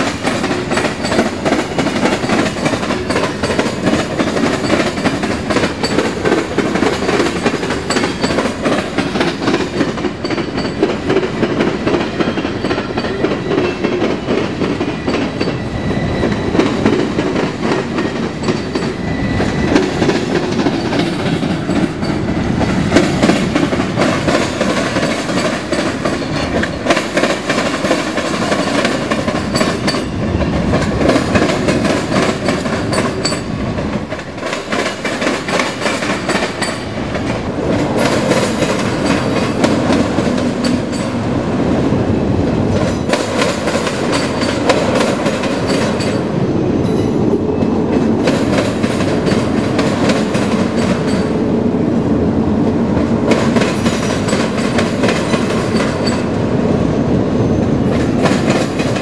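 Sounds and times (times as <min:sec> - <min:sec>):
freight train rumbling past: 0:00.0 - 0:59.0
wheels clacking over rail joints: 0:00.0 - 0:59.0.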